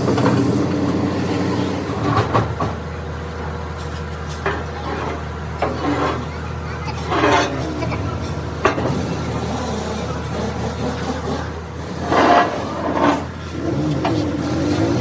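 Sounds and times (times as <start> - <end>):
low mechanical drone: 0.0 - 15.0.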